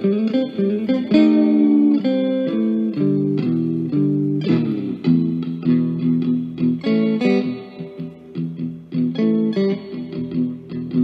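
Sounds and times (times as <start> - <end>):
plucked guitar melody: 0.0 - 11.0.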